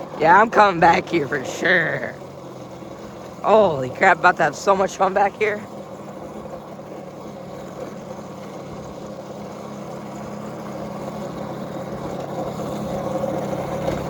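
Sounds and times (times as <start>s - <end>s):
small motorbike engine running: 0.0s - 14.0s.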